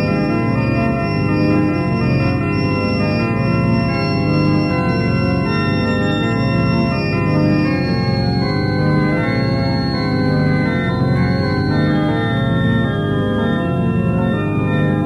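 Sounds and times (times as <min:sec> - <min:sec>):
organ-toned keyboard chords: 0:00.0 - 0:15.0.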